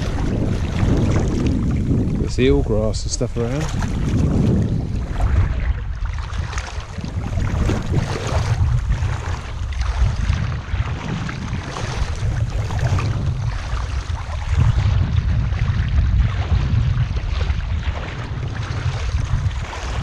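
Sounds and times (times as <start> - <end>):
legs sloshing through water: 0.0 - 20.0
low rumble: 0.0 - 20.0.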